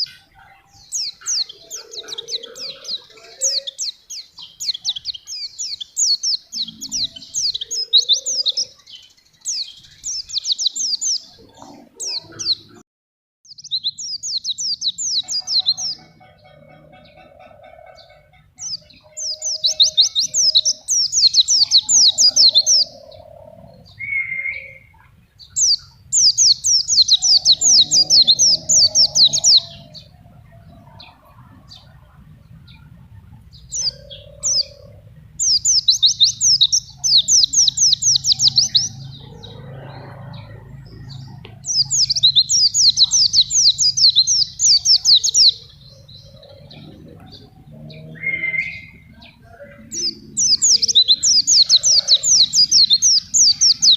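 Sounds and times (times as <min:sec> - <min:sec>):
bird chirping trills: 0:00.0 - 0:12.8, 0:13.5 - 0:53.9.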